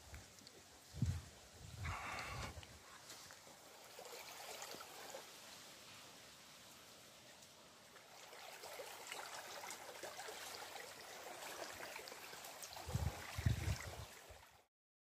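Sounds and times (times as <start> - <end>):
stream trickling over rocks: 0.0 - 14.7.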